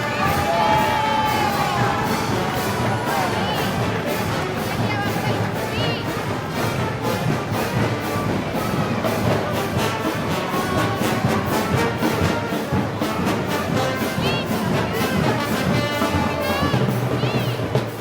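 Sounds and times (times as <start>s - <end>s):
brass band playing march: 0.0s - 18.0s
percussion beat: 0.0s - 18.0s.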